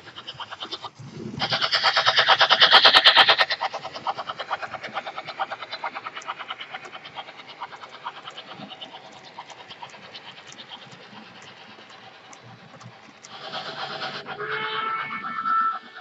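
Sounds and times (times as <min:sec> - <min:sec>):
model train wheels clicking: 0:00.0 - 0:16.0.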